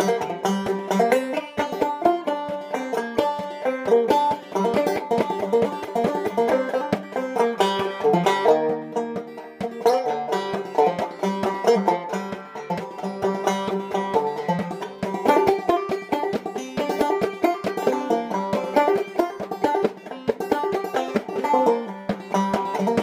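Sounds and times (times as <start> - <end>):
banjo playing: 0.0 - 23.0.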